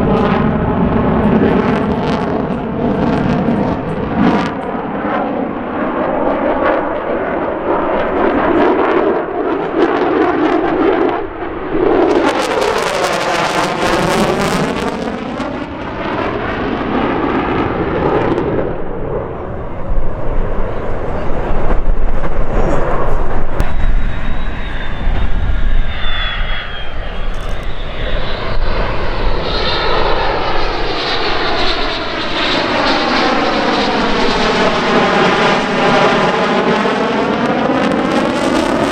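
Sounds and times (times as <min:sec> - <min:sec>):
fighter jet engine roaring past: 0:00.0 - 0:38.9.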